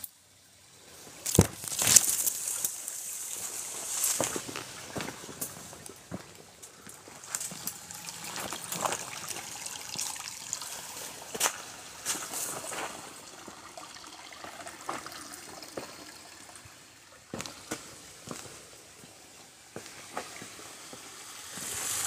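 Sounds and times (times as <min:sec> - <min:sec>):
creek water trickling over rocks: 0:00.0 - 0:22.0.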